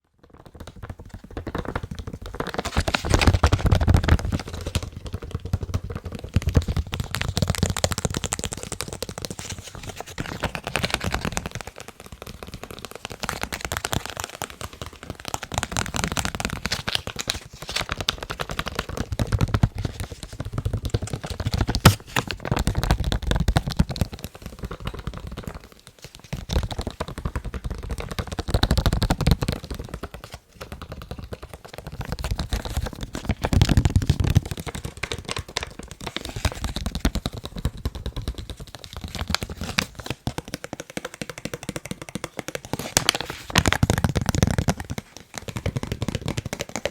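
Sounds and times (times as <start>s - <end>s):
rapid tapping on face mask: 0.1s - 46.9s.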